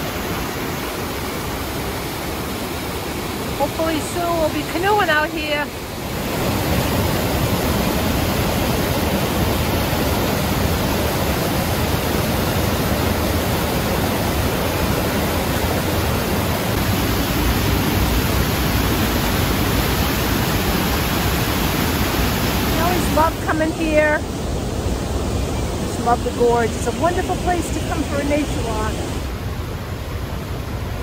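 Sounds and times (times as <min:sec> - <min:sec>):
river rushing over dam and rapids: 0:00.0 - 0:31.0.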